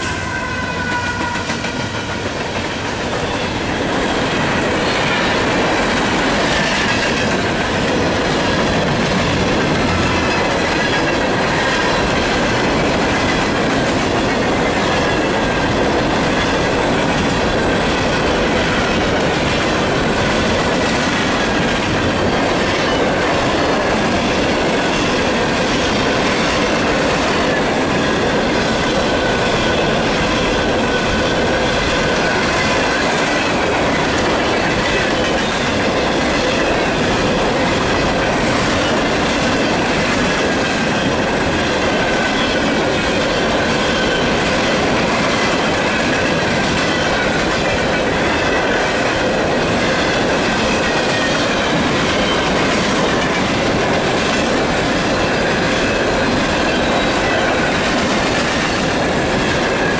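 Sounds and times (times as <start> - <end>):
train wheels clacking over rail joints: 0.0 - 59.9
wheels squealing on rails: 0.0 - 59.9.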